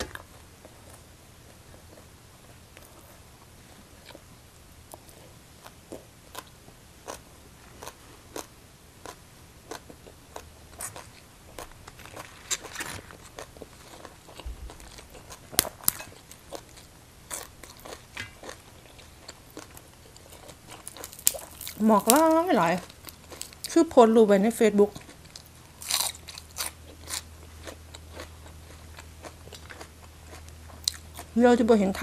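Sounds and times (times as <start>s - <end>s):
person chewing crunchy food: 0.0s - 4.3s, 4.9s - 23.7s, 24.9s - 31.4s.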